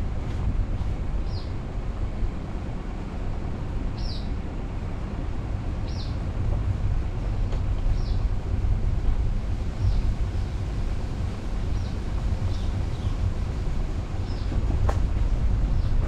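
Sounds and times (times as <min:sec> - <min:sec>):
engine and road noise: 0:00.0 - 0:16.0.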